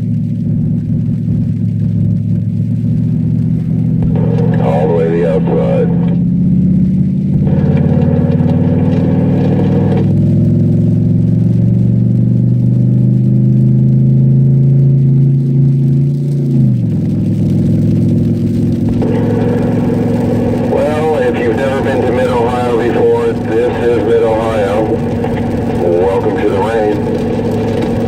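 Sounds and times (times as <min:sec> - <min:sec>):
car engine under load: 0:00.0 - 0:28.0.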